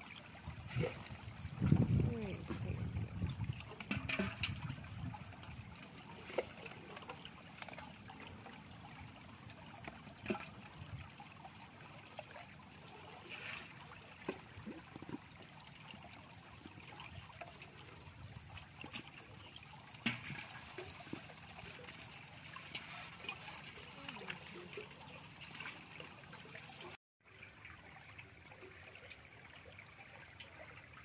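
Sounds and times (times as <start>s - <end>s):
shallow water trickling: 0.0s - 31.0s
water splashes and knocks: 0.0s - 31.0s.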